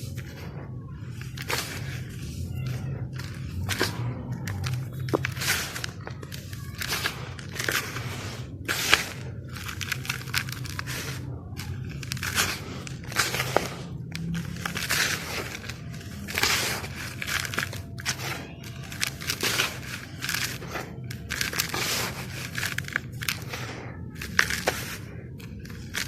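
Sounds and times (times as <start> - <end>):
sand slabs crunching: 0.0 - 26.0.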